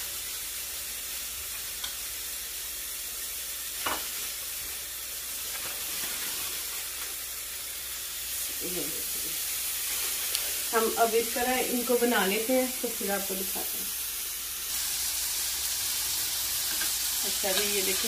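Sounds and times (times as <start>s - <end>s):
patties sizzling on a griddle: 0.0s - 18.0s.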